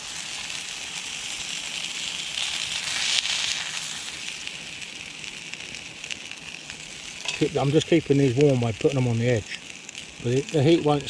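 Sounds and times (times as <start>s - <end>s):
burgers sizzling on griddle: 0.0s - 11.0s.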